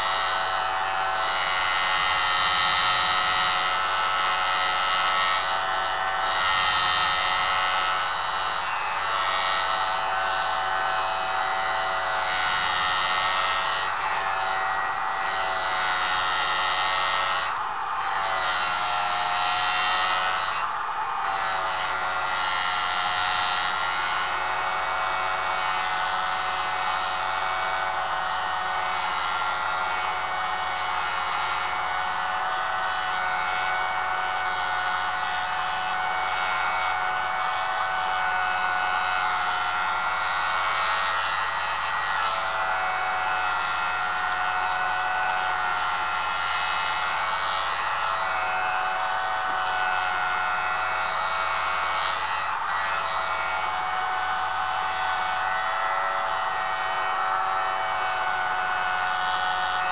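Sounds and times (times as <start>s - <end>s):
sharpener motor whining: 0.0s - 59.9s.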